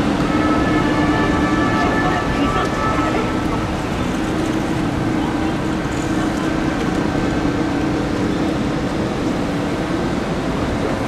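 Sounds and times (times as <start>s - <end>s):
street traffic: 0.0s - 11.0s
truck engines humming: 0.0s - 11.0s.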